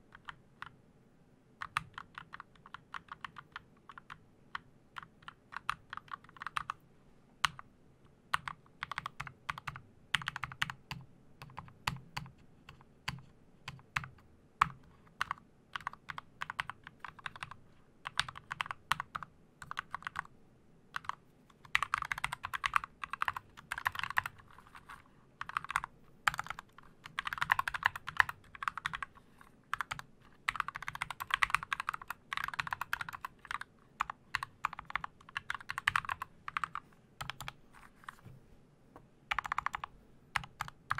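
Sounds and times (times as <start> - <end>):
mechanical keyboard typing: 1.6 - 6.8, 8.3 - 20.3, 21.0 - 37.6, 39.3 - 40.9.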